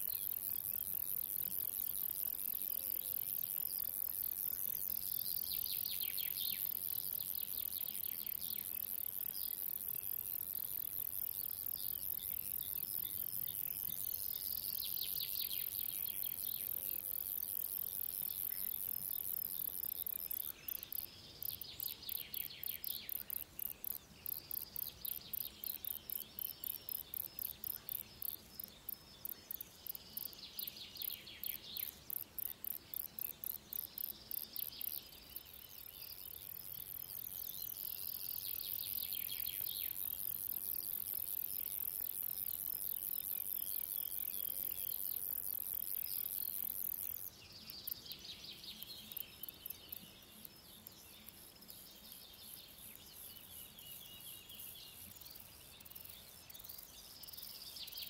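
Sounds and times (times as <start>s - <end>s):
high-pitched insect buzz: 0.0s - 48.0s
grasshoppers stridulating: 0.0s - 53.6s.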